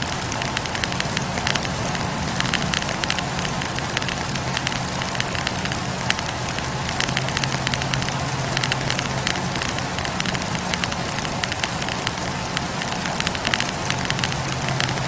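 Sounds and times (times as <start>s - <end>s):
steady hiss: 0.0s - 15.0s
wood crackling in campfire: 0.0s - 15.0s.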